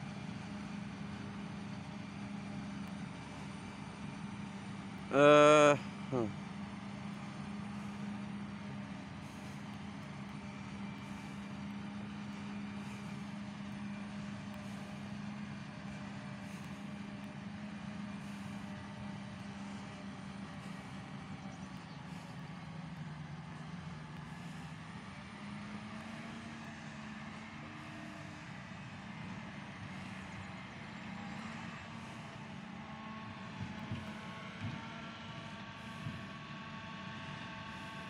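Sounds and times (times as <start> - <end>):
distant engine drone: 0.0 - 38.0.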